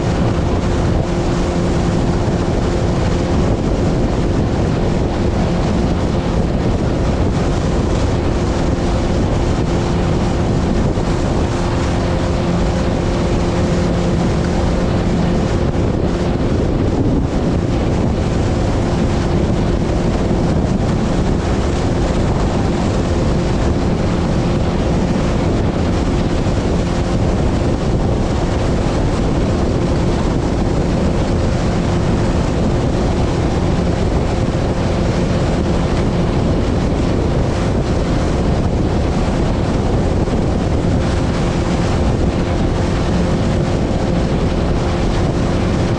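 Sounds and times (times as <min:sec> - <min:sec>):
motorboat engine running: 0:00.0 - 0:45.9
wind buffeting microphone: 0:00.0 - 0:45.9.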